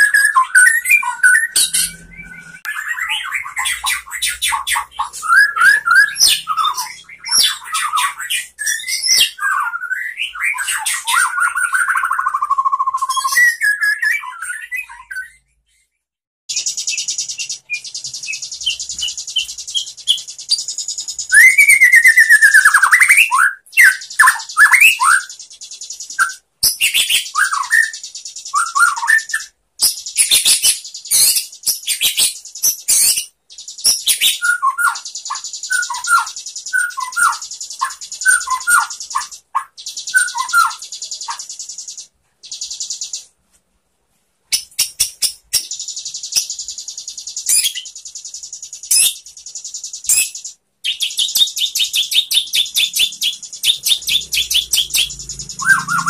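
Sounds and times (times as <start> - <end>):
songbird whistling and chattering: 0.0 - 15.5, 16.5 - 43.3, 44.5 - 56.0.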